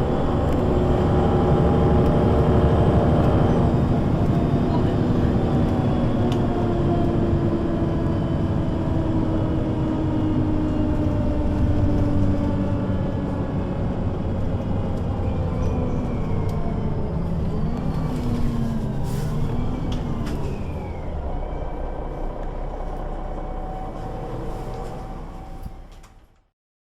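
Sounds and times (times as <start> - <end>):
bus engine and drivetrain whine: 0.0 - 26.5.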